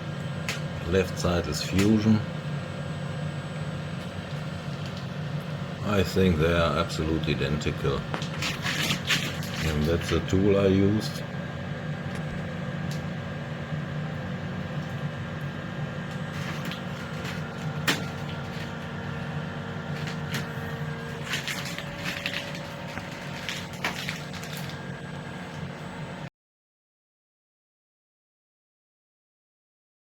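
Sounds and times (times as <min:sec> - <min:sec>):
low workshop hum: 0:00.0 - 0:26.3.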